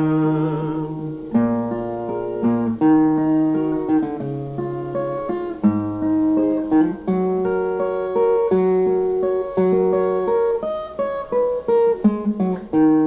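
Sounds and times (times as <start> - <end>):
plucked viola melody: 0.0 - 13.0.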